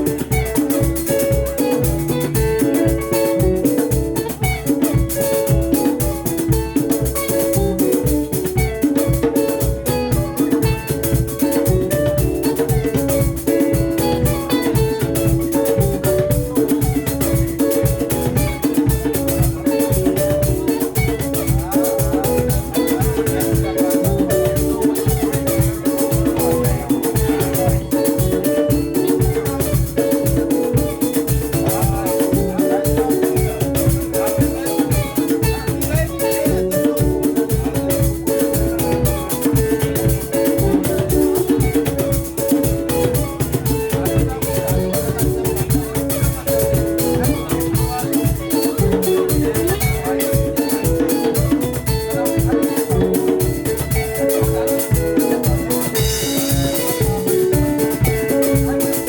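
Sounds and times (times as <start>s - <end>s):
bass guitar: 0.0s - 59.0s
driving drum beat: 0.0s - 59.0s
fast picked guitar lines: 0.0s - 59.0s.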